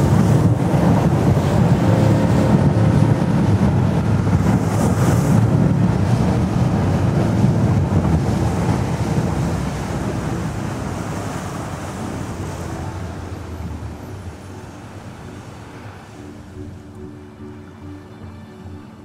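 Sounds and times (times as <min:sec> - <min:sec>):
wind buffeting microphone: 0:00.0 - 0:17.4
boat motor running: 0:00.0 - 0:18.5
rushing water: 0:00.0 - 0:19.0.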